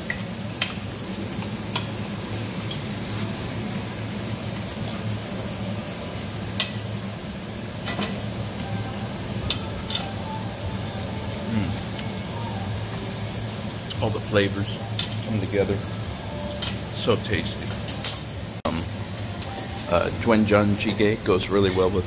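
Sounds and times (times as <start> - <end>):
meat sizzling on a grill: 0.0 - 22.0
low steady hum: 0.1 - 22.0.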